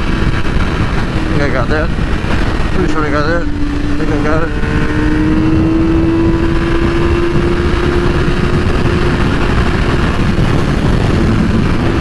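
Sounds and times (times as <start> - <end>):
motorcycle engine high-pitched: 0.0 - 12.0
wind buffeting microphone: 0.0 - 12.0.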